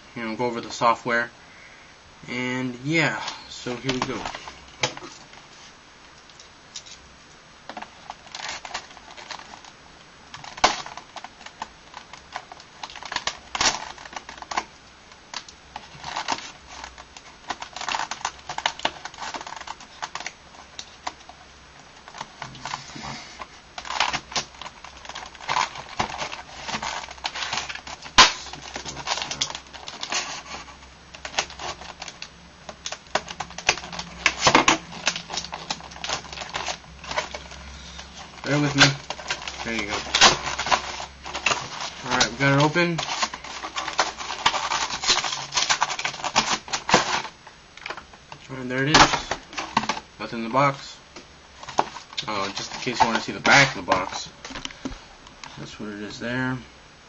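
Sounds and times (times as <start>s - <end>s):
cardboard and plastic crinkling: 2.9s - 7.0s, 7.6s - 56.2s.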